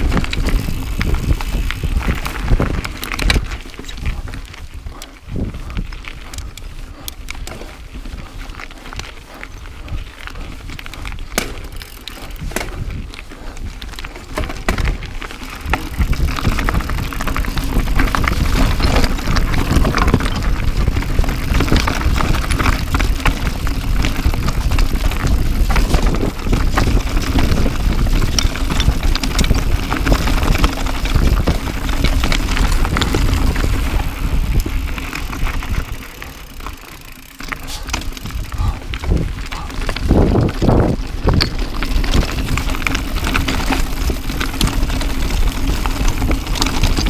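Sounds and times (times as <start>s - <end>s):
bike clicks and rattles: 0.0s - 47.0s
tyres crunching over stones: 0.0s - 47.0s
wind noise on microphone: 0.0s - 47.0s.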